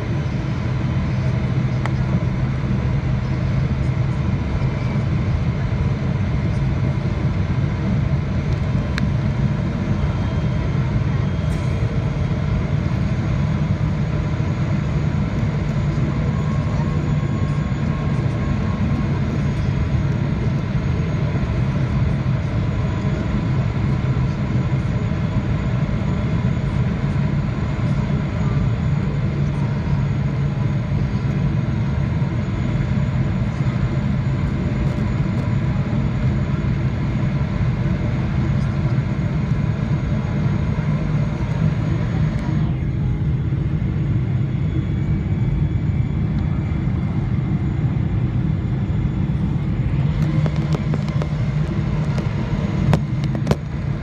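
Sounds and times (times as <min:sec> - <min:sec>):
airflow and engine rumble: 0:00.0 - 0:54.0
faint whining tones: 0:00.0 - 0:54.0.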